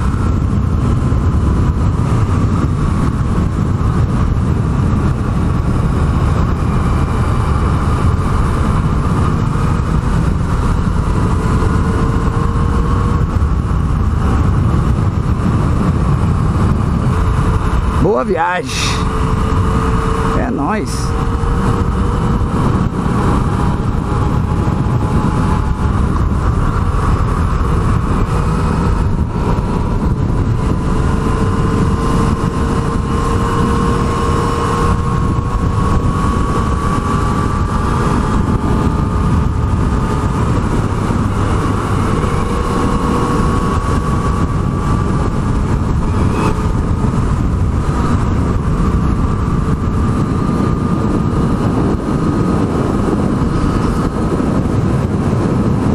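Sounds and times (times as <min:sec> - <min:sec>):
motorcycle engine running: 0:00.0 - 0:55.9
steady rushing noise: 0:00.0 - 0:55.9.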